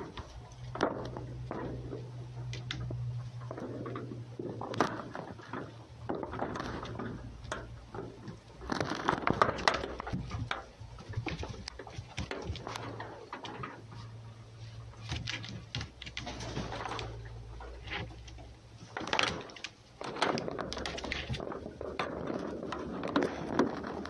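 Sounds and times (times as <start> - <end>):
paws scrabbling on a board: 0.0 - 24.0.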